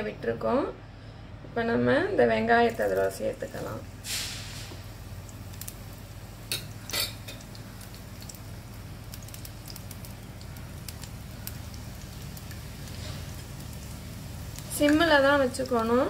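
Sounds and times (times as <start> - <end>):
onions sizzling in oil: 2.6 - 16.0.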